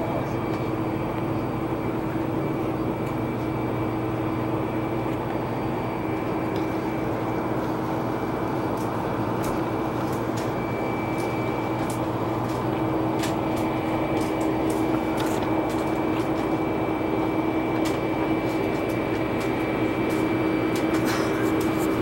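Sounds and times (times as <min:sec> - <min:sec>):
machine drone with hum: 0:00.0 - 0:22.0.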